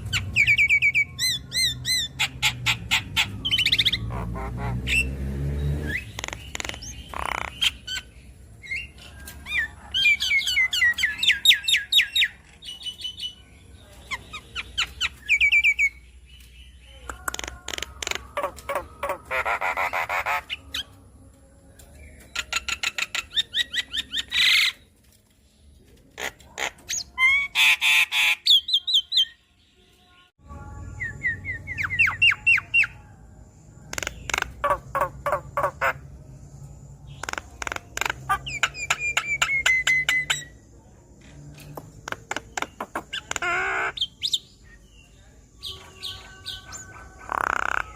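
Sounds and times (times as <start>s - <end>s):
myna bird singing: 0.0s - 47.9s.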